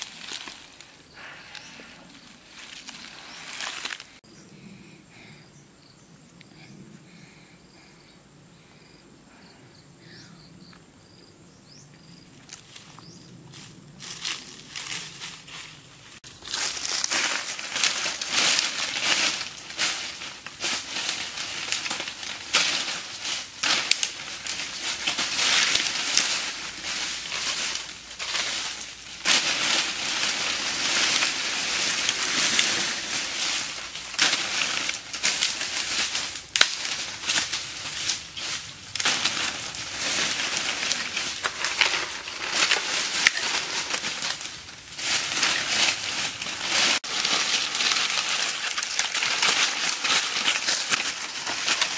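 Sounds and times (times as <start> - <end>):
dry branches handled: 0.0 - 4.2, 12.4 - 51.9
dry leaves and sticks crunching: 0.0 - 4.2, 12.3 - 51.9.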